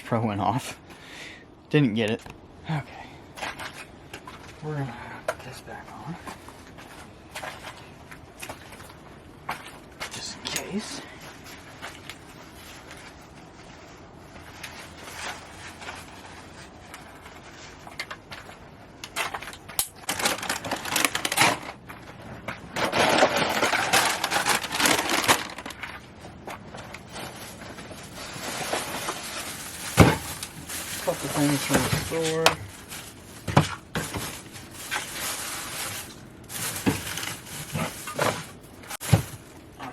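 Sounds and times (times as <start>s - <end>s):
rustling and clattering objects: 3.2s - 4.6s, 5.2s - 39.9s.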